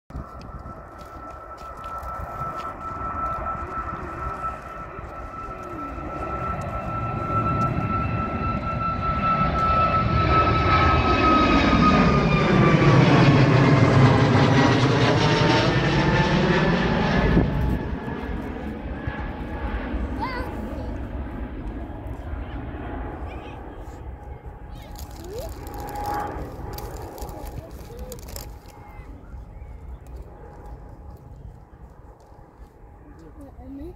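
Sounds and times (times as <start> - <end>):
high jet fan whine: 0.1 - 33.9
jet airliner passing overhead: 0.1 - 33.9.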